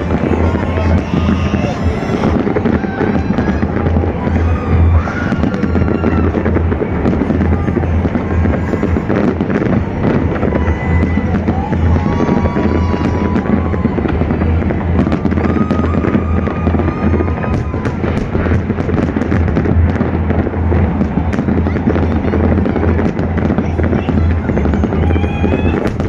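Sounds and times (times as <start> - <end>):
fireworks bangs and crackling: 0.0 - 26.0
steady low rumble: 0.0 - 26.0.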